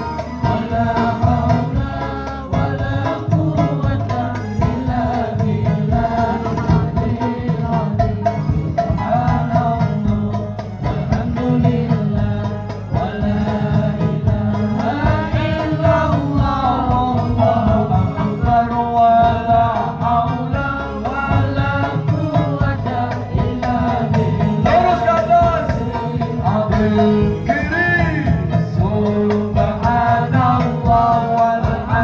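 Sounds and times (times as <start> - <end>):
sustained low instrumental notes: 0.0 - 32.0
voices singing devotional song: 0.0 - 32.0.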